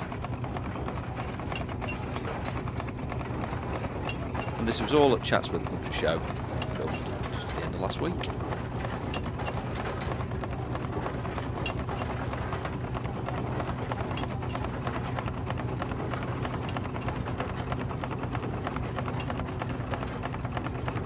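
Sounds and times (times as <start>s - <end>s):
constant low hum: 0.0s - 21.0s
fast mechanical clatter: 0.0s - 21.0s.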